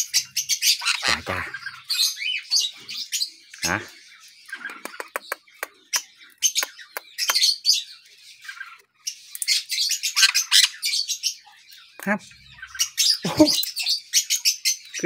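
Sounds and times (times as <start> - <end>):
parrots chirping and squawking: 0.0 - 15.0.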